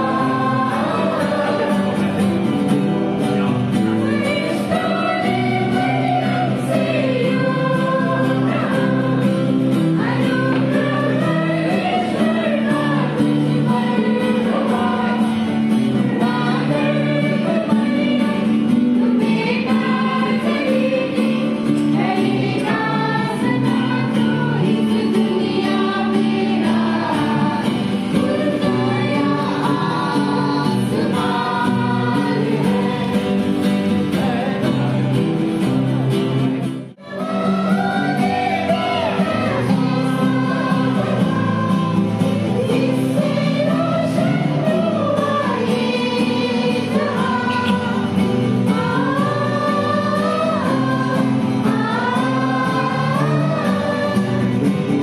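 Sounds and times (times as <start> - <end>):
choir singing a carol: 0.0 - 35.6, 36.9 - 55.0
acoustic guitar: 0.0 - 55.0.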